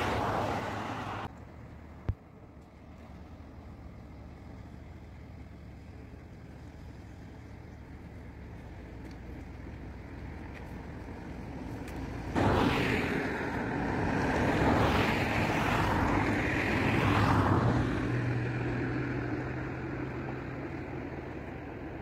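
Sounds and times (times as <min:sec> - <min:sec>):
motor vehicle passing: 0:00.0 - 0:01.4, 0:02.9 - 0:22.0
low engine hum: 0:00.0 - 0:22.0.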